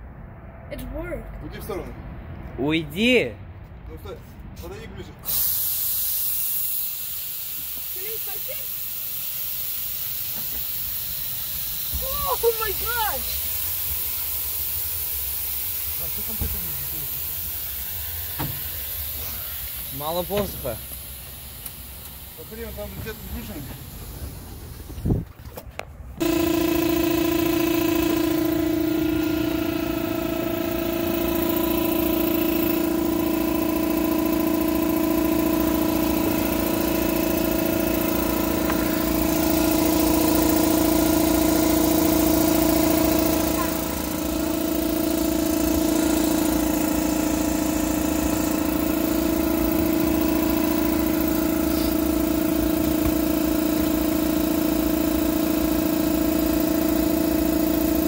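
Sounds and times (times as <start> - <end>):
electric air blower humming: 5.3 - 24.9, 26.2 - 58.0.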